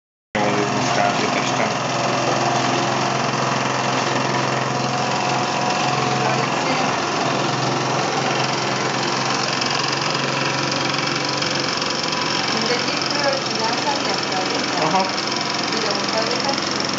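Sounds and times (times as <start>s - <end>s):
model steam engine running: 0.4s - 16.9s.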